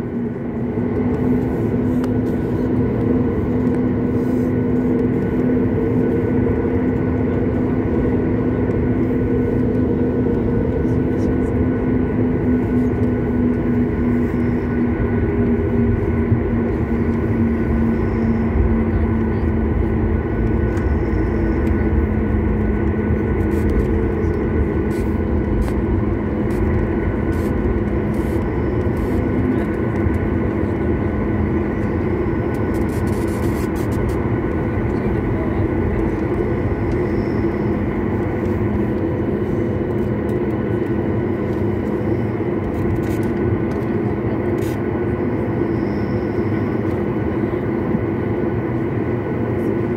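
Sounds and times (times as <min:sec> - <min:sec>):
jet engines rumbling with whine: 0:00.0 - 0:49.9.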